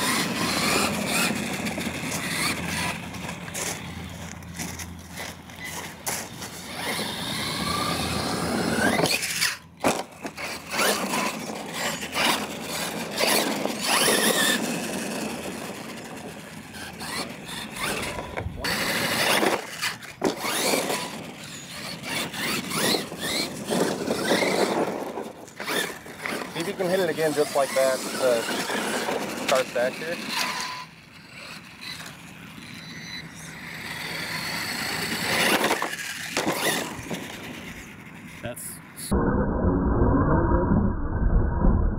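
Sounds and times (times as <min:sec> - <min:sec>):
electric motor whining: 0:00.0 - 0:39.2
tires on dirt: 0:00.0 - 0:39.2.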